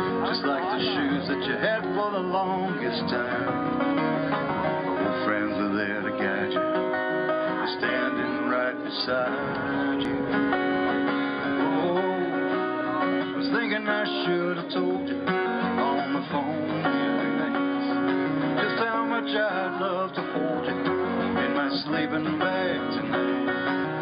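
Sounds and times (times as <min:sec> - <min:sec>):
acoustic guitar: 0:00.0 - 0:24.0
person singing: 0:00.0 - 0:24.0.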